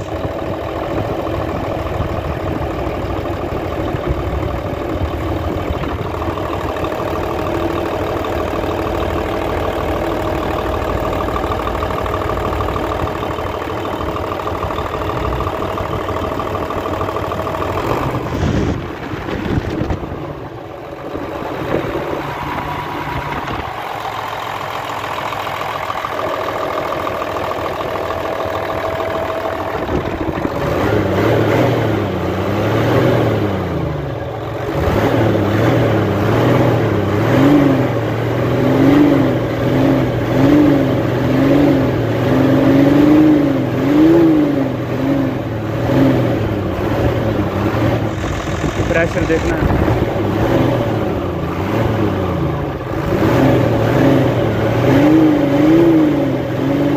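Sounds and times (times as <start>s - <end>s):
diesel engine revving: 0.0s - 56.9s
diesel truck engine idling: 0.0s - 56.9s.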